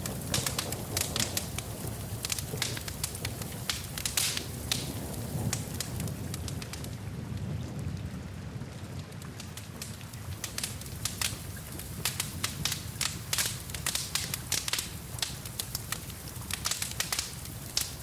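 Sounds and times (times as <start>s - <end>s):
wood fire crackling and popping: 0.0s - 8.0s, 8.6s - 18.0s.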